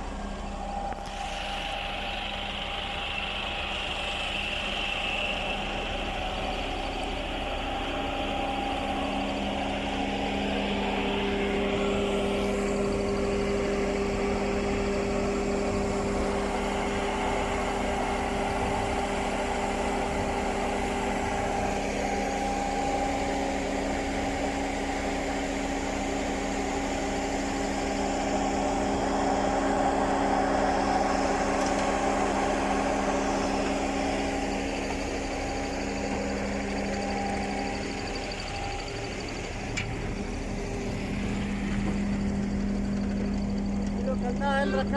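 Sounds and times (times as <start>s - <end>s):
concrete pump hum: 0.0s - 44.9s.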